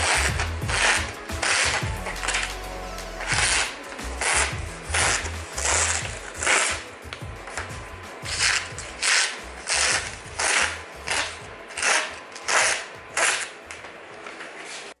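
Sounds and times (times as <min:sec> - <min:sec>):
knife slicing paper: 0:00.0 - 0:15.0.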